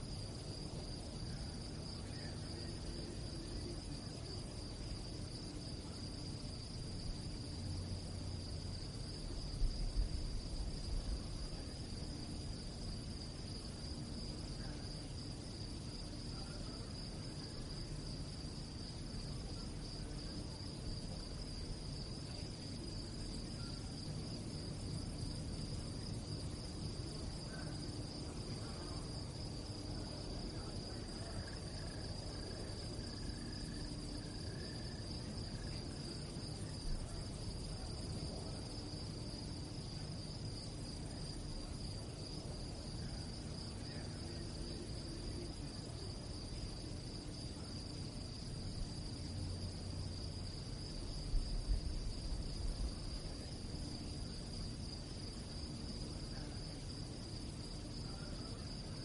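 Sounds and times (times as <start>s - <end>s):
low background rumble: 0.0s - 57.6s
crickets chirping: 0.0s - 59.0s.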